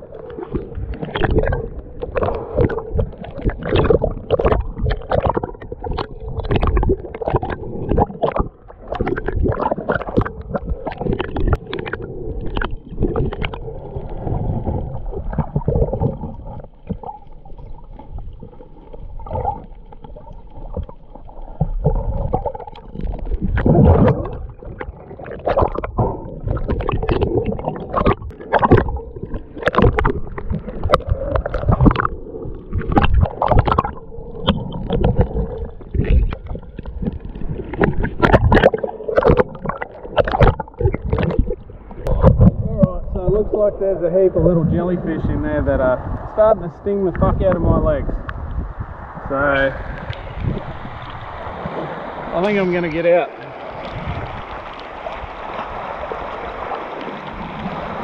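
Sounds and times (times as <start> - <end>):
sea water gurgling and sloshing: 0.0 - 58.0.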